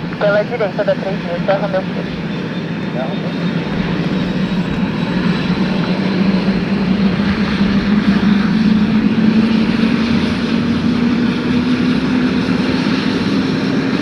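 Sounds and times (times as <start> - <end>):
aircraft engine humming: 0.0 - 14.0.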